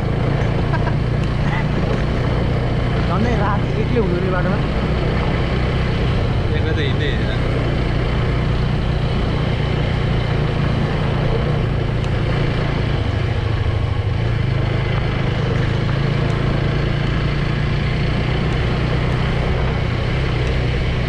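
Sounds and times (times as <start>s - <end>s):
motorbike engine running: 0.0s - 21.0s
road and wind noise: 0.0s - 21.0s.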